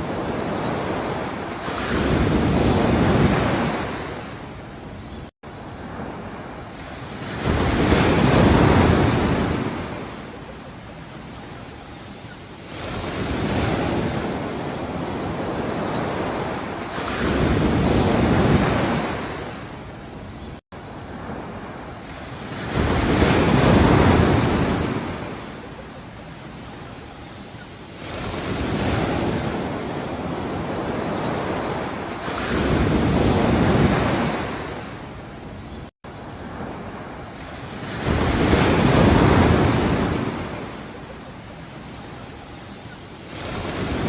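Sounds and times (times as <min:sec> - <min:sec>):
ocean waves washing in: 0:00.0 - 0:44.0.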